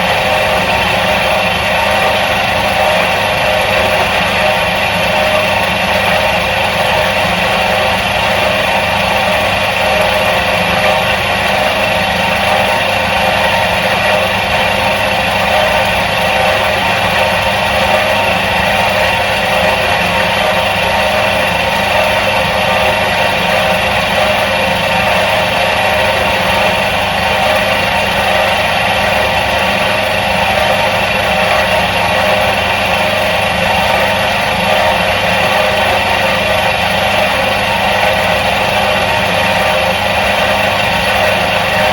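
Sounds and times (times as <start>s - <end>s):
washing machine motor humming: 0.0s - 41.9s.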